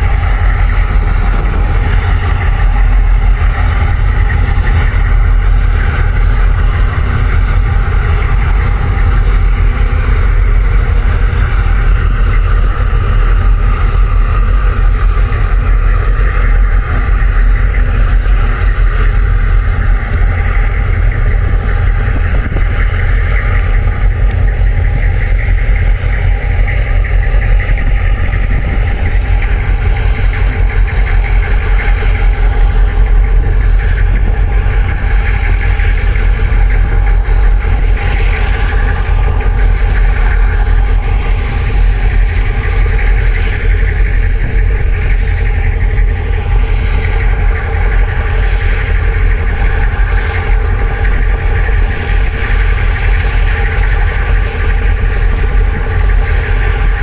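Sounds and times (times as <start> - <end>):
ship diesel engines rumbling: 0.0 - 57.0.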